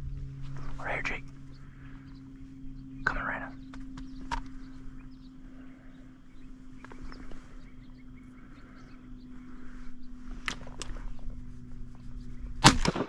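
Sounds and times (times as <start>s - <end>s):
birds chirping and calling: 0.0s - 13.0s
steady low hum: 0.0s - 13.0s.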